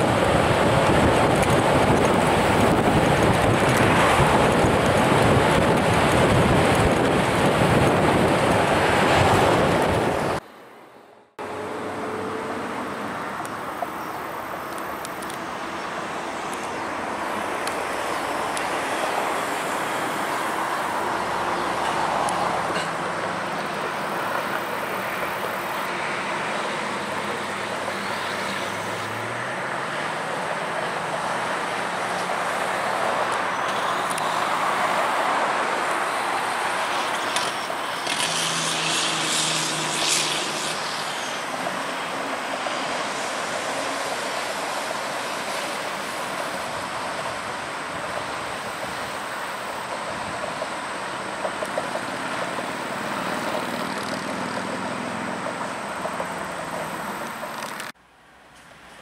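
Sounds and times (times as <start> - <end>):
road traffic hiss: 0.0 - 59.0.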